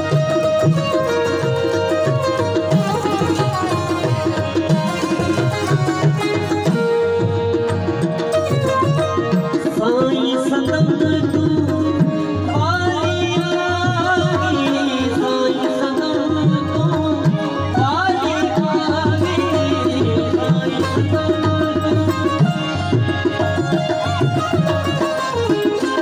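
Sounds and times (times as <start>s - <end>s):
banjo melody with sliding runs: 0.0s - 26.0s
harmonium: 0.0s - 26.0s
tabla drumming: 0.0s - 26.0s.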